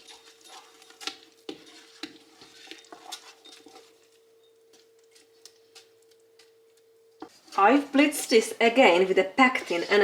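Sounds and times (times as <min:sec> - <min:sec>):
spoon stirring a pot: 0:00.0 - 0:10.0
faint steady hum: 0:00.1 - 0:10.0.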